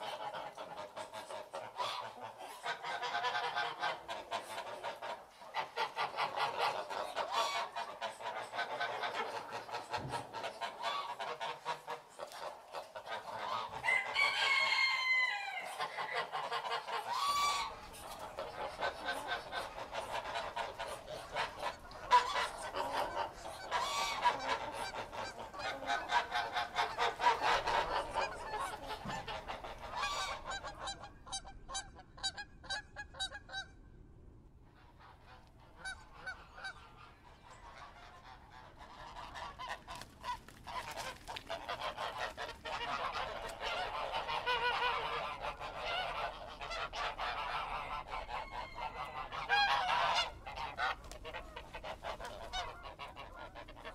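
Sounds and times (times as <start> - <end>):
geese honking: 0.0 - 33.8, 34.7 - 53.9.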